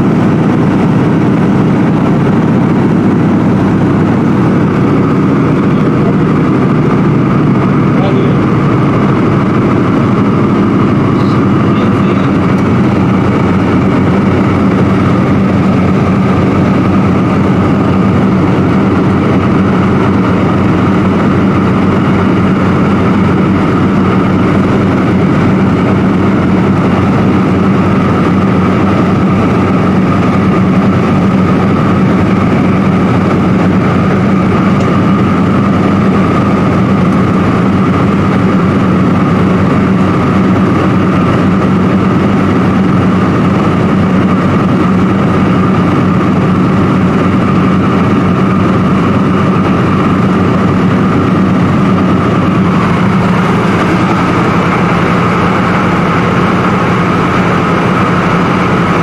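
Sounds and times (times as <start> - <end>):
propeller engines droning: 0.0 - 59.0.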